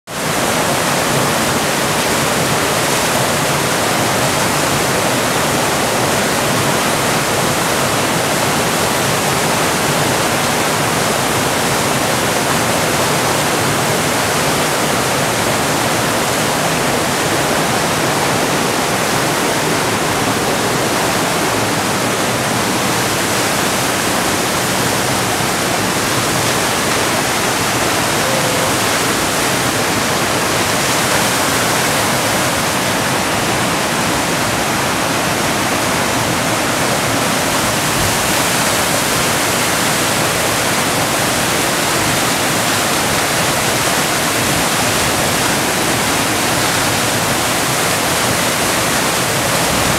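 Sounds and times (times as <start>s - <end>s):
water cascading over boulders: 0.1s - 49.9s
waterfall rushing onto rocks: 0.1s - 49.9s.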